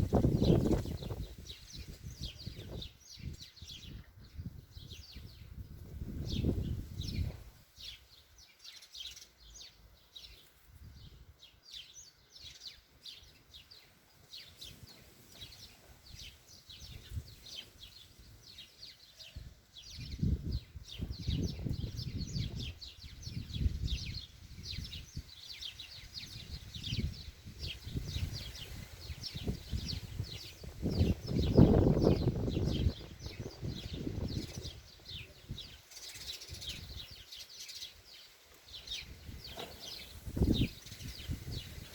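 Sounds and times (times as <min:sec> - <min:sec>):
wind gusts on microphone: 0:00.0 - 0:08.0, 0:14.6 - 0:18.6, 0:19.4 - 0:37.3, 0:38.2 - 0:41.9
small birds chirping: 0:00.0 - 0:41.9.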